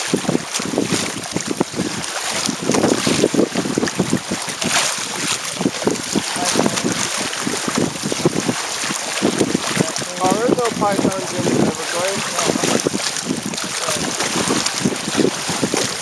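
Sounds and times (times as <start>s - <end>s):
water rushing and splashing: 0.0s - 16.0s
wind buffeting microphone: 0.0s - 16.0s.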